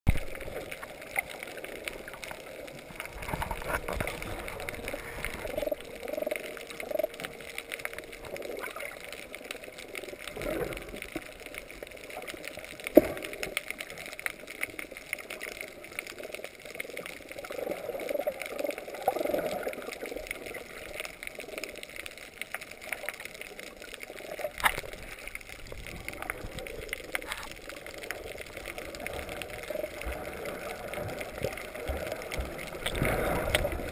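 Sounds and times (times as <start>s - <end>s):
muffled underwater water sloshing: 0.1s - 33.9s.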